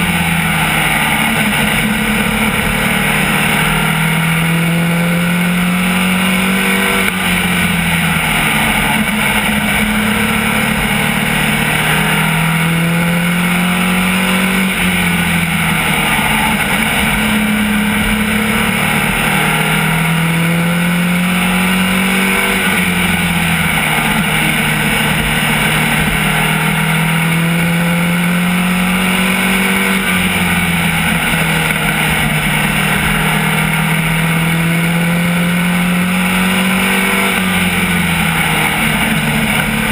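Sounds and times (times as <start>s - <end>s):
race car engine at speed: 0.0s - 39.9s
steady rush of noise: 0.0s - 39.9s.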